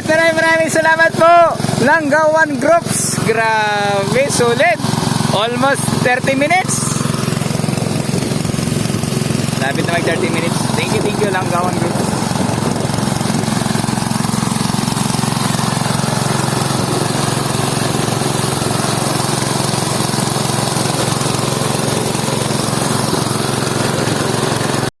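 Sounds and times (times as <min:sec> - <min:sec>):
small engine running: 0:00.0 - 0:24.9.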